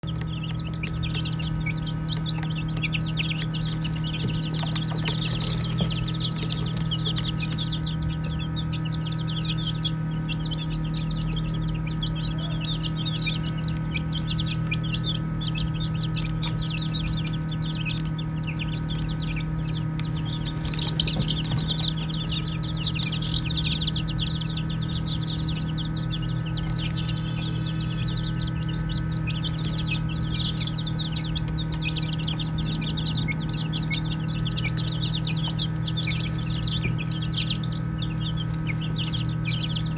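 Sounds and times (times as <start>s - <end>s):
baby chicks peeping: 0.0s - 39.9s
steady low hum: 0.0s - 39.9s.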